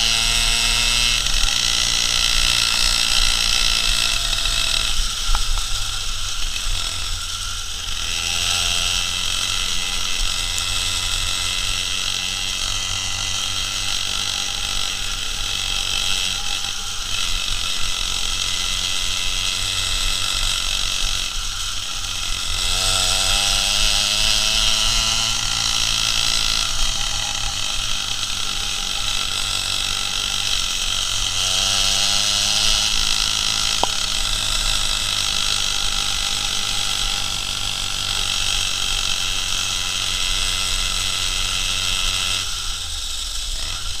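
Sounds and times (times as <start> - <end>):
two-stroke engine revving: 0.0 - 44.0.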